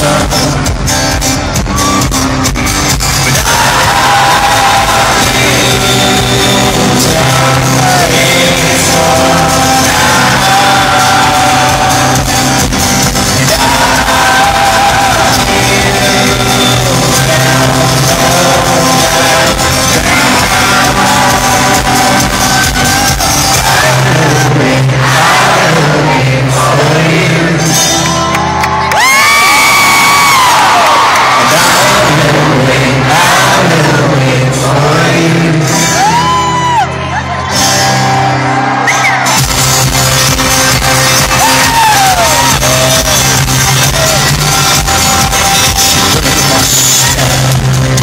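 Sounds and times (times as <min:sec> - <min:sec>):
person singing lead vocal: 0:00.0 - 0:02.1, 0:03.0 - 0:28.4, 0:29.2 - 0:37.1, 0:40.9 - 0:48.0
folk-rock band playing live: 0:00.0 - 0:48.0
crowd shouting along: 0:03.1 - 0:40.2, 0:40.8 - 0:48.0.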